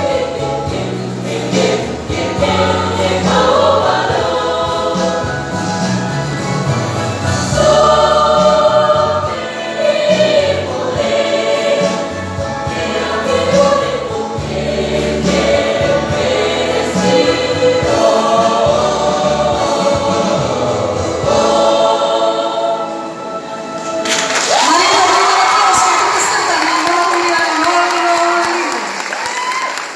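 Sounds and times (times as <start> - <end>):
choir singing in harmony: 0.0 - 26.3.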